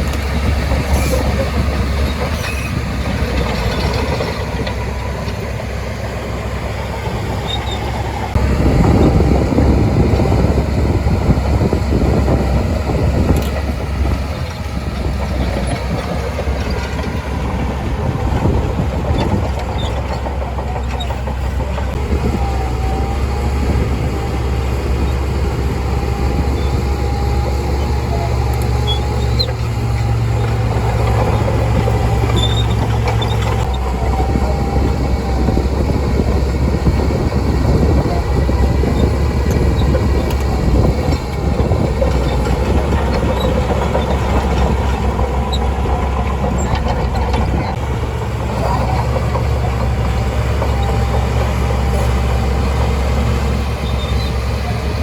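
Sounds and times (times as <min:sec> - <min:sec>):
bulldozer diesel engine running: 0:00.0 - 0:55.0
faint engine whine: 0:00.0 - 0:55.0.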